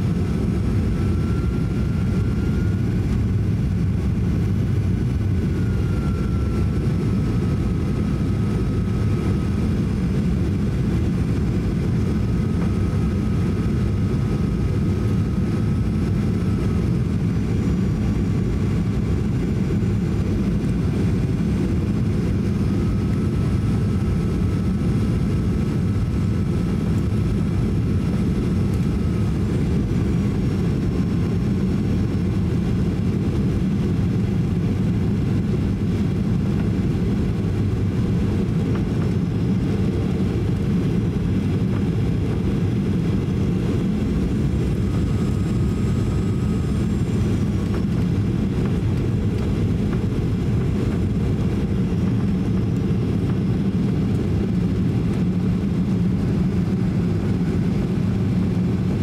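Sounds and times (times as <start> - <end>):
aircraft cabin airflow and engine: 0.0 - 59.0
faint whining tones: 0.1 - 37.3, 38.2 - 58.4.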